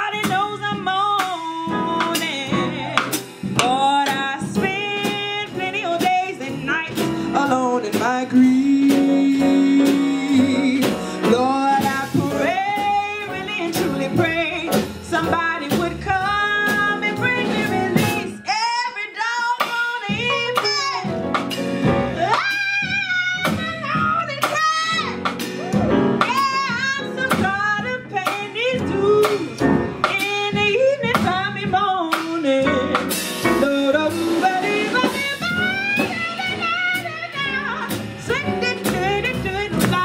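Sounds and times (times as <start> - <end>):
upright bass: 0.0 - 18.5, 20.1 - 40.0
grand piano: 0.0 - 18.9, 20.0 - 40.0
drum kit with cymbals: 0.0 - 40.0.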